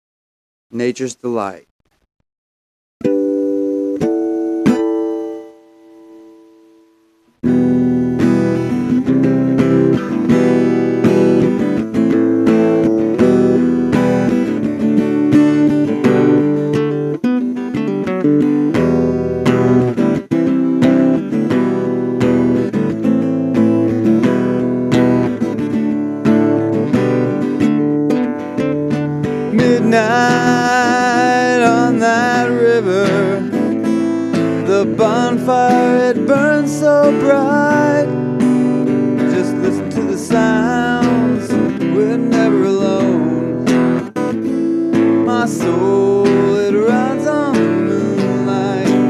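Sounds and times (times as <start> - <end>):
acoustic guitar strumming: 3.0 - 49.0.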